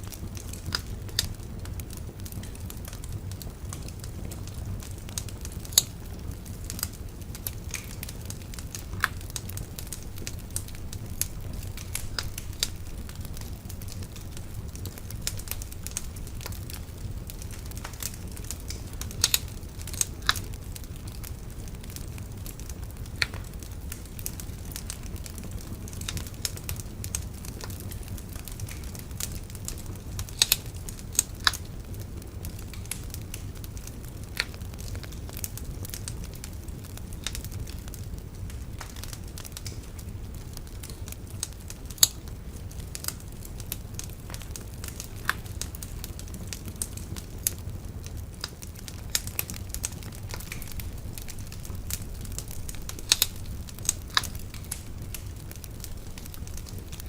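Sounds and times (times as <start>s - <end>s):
steady low rumble: 0.0s - 34.0s, 43.5s - 57.0s
bonfire crackling and popping: 0.0s - 57.0s.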